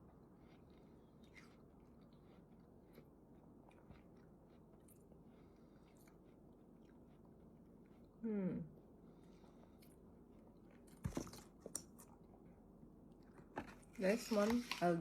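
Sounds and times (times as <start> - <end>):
faint chewing: 0.0 - 8.2, 9.1 - 14.9.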